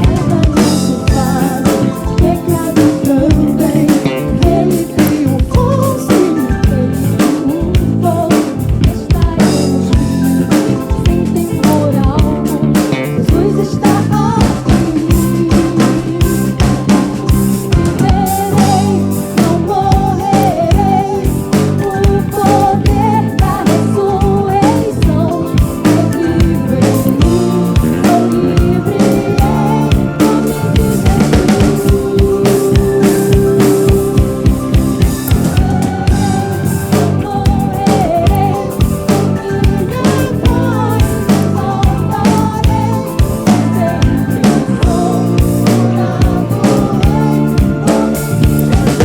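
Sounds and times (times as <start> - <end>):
live soul band playing: 0.0 - 49.0
person singing: 0.0 - 49.0.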